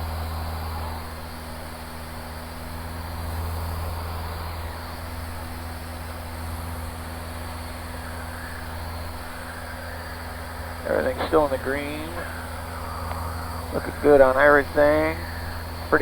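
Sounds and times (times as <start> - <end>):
aircraft engine and propeller droning: 0.0 - 16.0.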